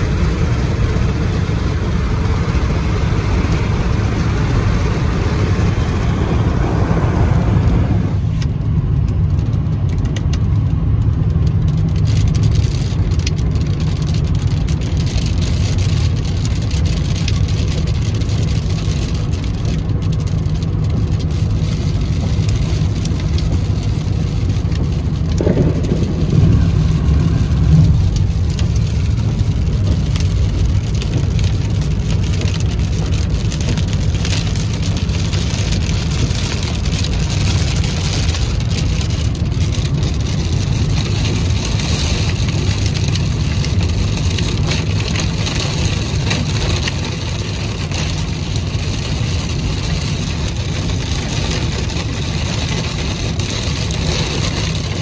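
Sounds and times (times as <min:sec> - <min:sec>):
low rumble of tyres and engine: 0:00.0 - 0:55.0.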